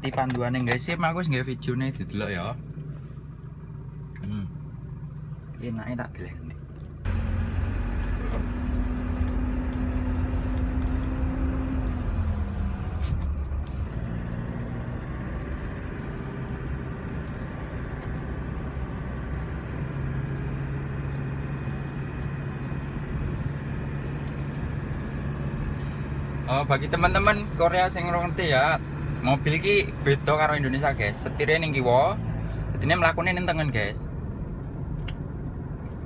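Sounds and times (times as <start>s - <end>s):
truck engine and road noise: 0.0s - 36.0s.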